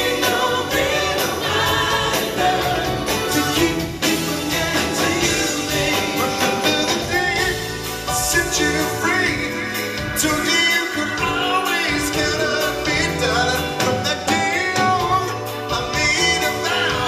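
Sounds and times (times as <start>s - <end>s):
live pop band playing: 0.0s - 17.0s
men singing: 0.0s - 17.0s.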